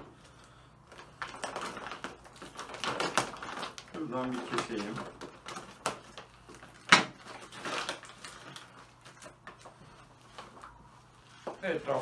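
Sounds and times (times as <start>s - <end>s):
plastic bag rustling: 0.8s - 12.0s.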